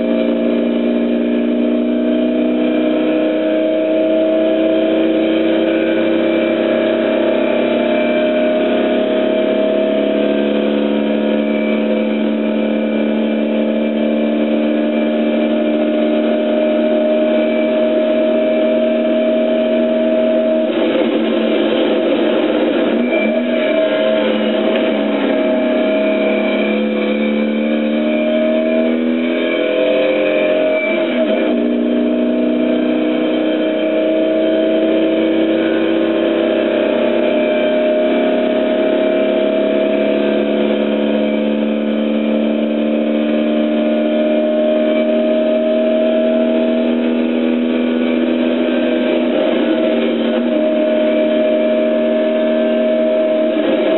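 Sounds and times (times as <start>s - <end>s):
car engine pulling uphill: 0.0s - 53.9s.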